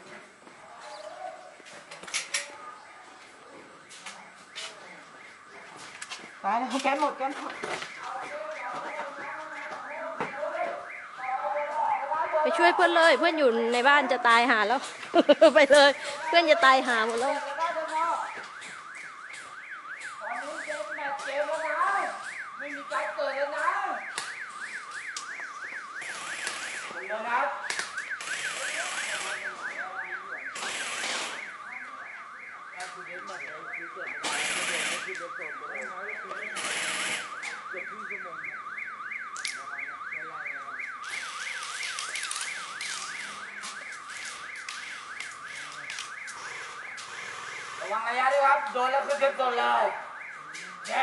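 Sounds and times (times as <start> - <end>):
electronic siren wailing: 4.3 - 51.0.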